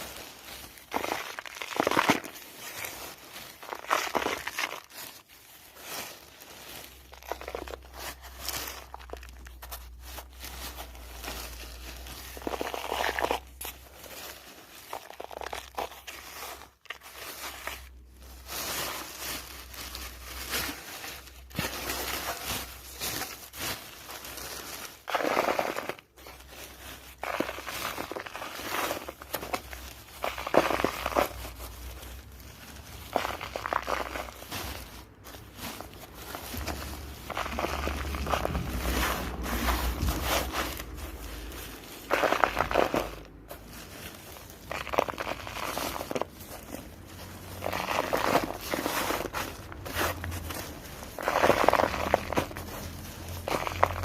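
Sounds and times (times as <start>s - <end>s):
dry cement crunching: 0.0s - 54.0s.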